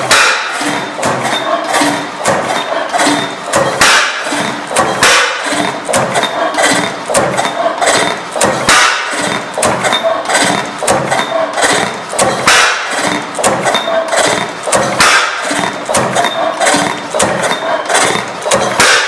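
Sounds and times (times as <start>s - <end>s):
stationary gas engine knocking: 0.0s - 19.0s.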